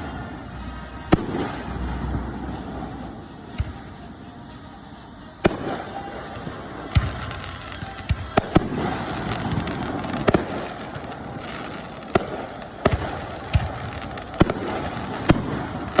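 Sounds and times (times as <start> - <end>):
continuous background noise: 0.0 - 16.0
fireworks bangs: 0.0 - 16.0.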